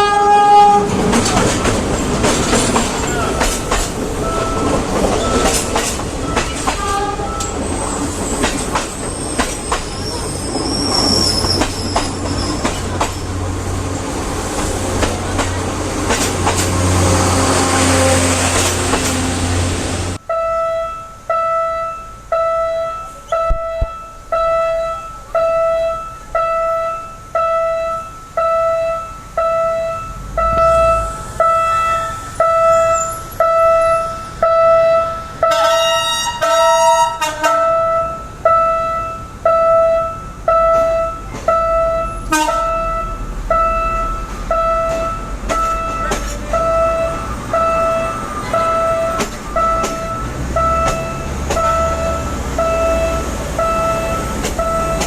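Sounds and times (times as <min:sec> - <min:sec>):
train rumble: 0:00.0 - 0:20.4, 0:21.2 - 0:55.0.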